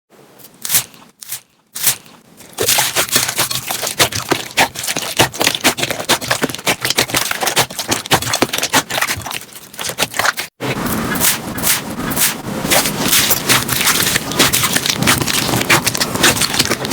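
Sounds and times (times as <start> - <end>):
slime squishing: 0.4 - 16.9.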